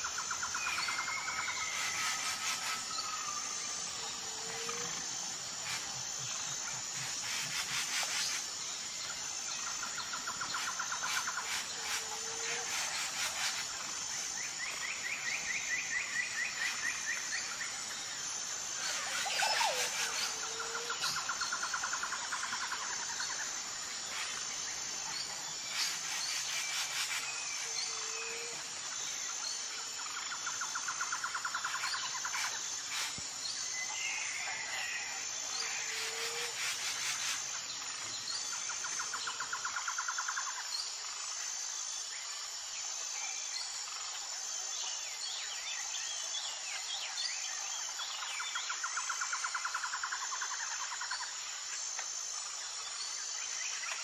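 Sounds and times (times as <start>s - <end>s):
high insect drone with trills: 0.0s - 54.0s.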